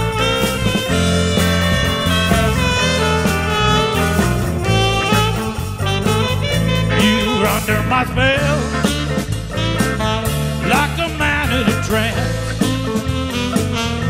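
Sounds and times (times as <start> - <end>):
bass: 0.0 - 14.0
drums: 0.0 - 14.0
electric guitar: 0.0 - 14.0
saxophone: 0.0 - 14.0.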